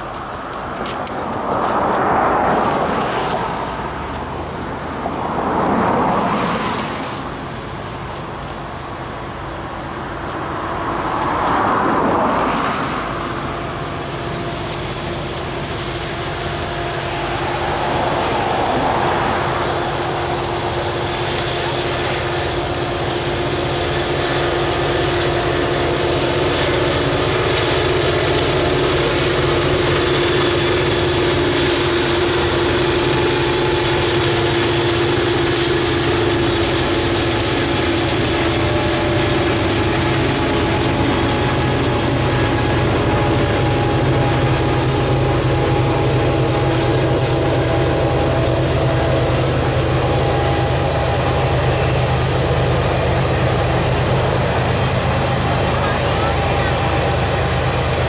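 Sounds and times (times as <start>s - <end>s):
diesel locomotive engine drone: 0.0s - 58.0s
road vehicles passing: 0.0s - 58.0s.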